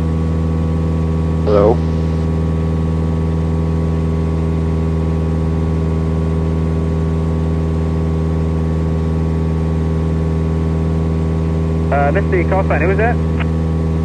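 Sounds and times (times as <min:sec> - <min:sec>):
small plane engine droning: 0:00.0 - 0:14.0.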